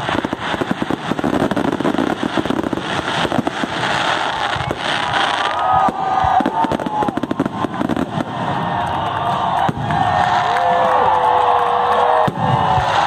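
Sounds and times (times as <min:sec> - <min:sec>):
fireworks whistling: 0:00.0 - 0:11.3, 0:12.0 - 0:13.0
fireworks popping and crackling: 0:00.0 - 0:13.0.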